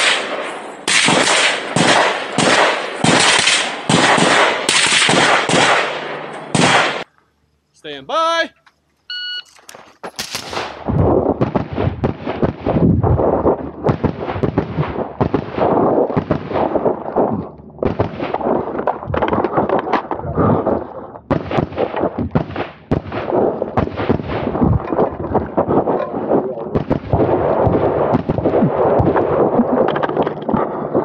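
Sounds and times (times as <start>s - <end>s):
rifle shots with echo: 0.0s - 7.1s, 10.2s - 19.8s, 21.3s - 29.9s.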